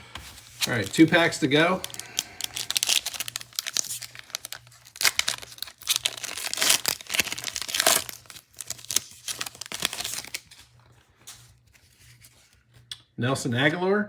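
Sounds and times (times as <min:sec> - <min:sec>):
wrapper tearing and crinkling: 0:00.4 - 0:12.6.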